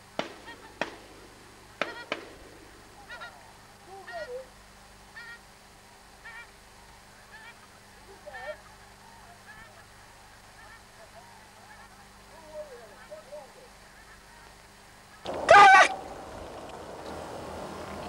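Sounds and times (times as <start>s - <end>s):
geese honking: 0.0s - 0.9s, 1.6s - 4.5s, 5.1s - 5.5s, 6.2s - 18.0s.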